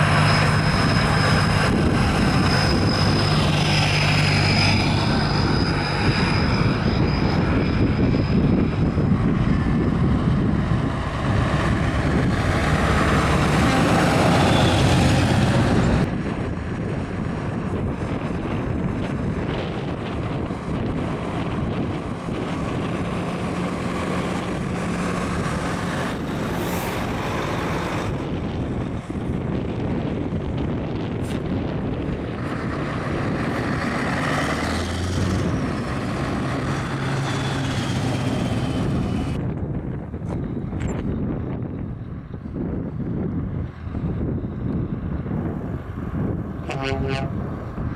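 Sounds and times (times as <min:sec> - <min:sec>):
truck engines humming: 0:00.0 - 0:47.9
wind buffeting microphone: 0:00.0 - 0:47.9.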